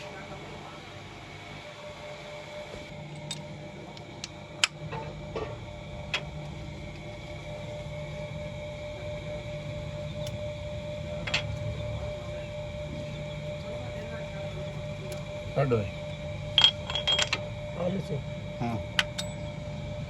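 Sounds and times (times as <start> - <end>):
faint steady tone: 0.0 - 20.0
steady low hum: 0.0 - 20.0.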